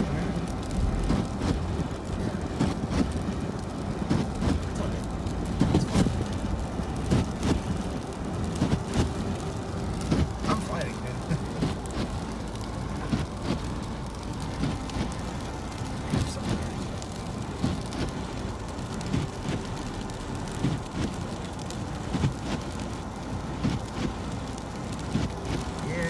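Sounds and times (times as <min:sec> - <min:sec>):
car driving on slushy road: 0:00.0 - 0:26.0.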